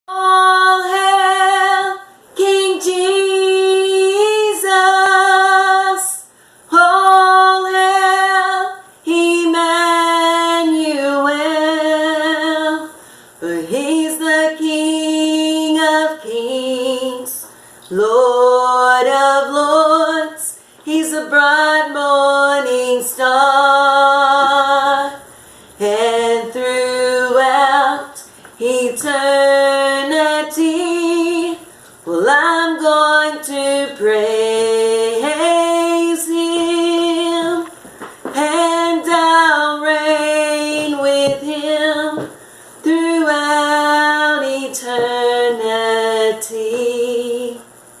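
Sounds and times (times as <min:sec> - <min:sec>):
woman singing unaccompanied: 0:00.1 - 0:47.8.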